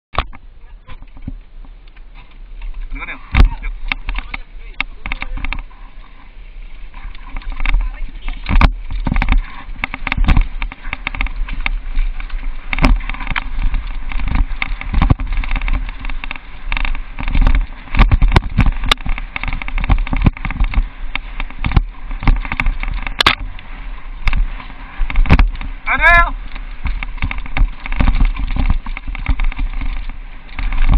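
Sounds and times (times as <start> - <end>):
wind rumble on microphone: 0.1 - 30.9
mountain bike rattling on dirt trail: 0.2 - 30.9
bike knocking over bumps: 1.1 - 5.9, 6.9 - 30.9.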